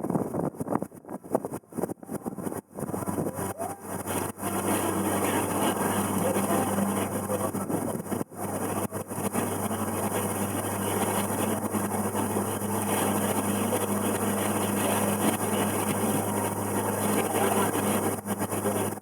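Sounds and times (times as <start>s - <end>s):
boat engine humming: 1.5s - 19.0s
wash of noise: 2.1s - 19.0s.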